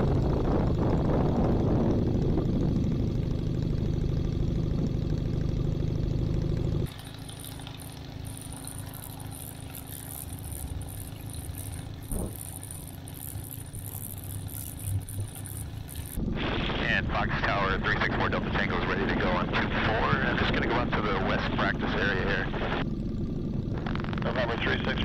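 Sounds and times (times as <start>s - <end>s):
ultralight aircraft engine running: 0.0s - 25.0s.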